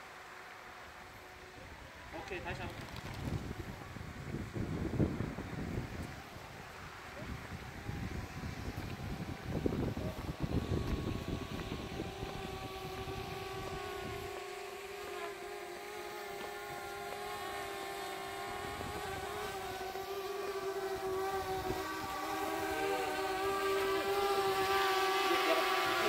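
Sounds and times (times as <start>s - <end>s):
drone propellers buzzing: 0.0s - 26.0s
wind rumble on microphone: 2.2s - 14.7s, 16.2s - 24.8s.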